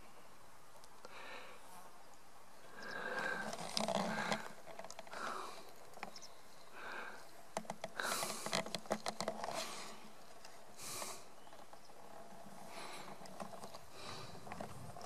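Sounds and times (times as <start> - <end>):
twigs crackling: 2.7 - 15.0.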